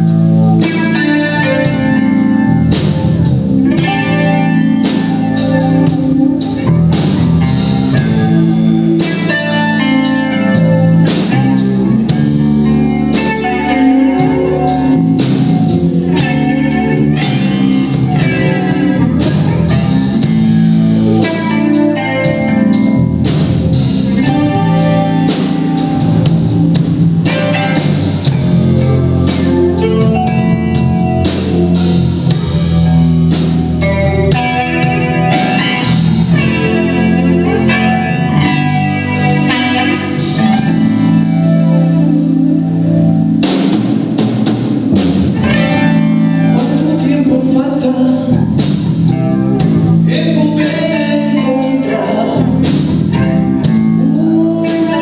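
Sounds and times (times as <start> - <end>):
blues band playing live: 0.0 - 55.0.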